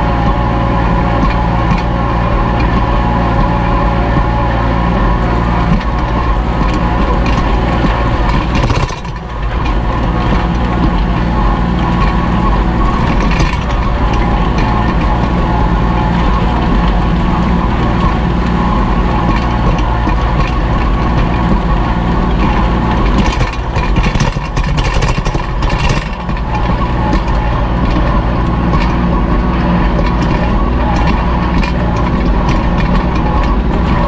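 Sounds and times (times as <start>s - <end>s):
clicks and rattles: 0.0s - 34.0s
tractor diesel engine running: 0.0s - 34.0s.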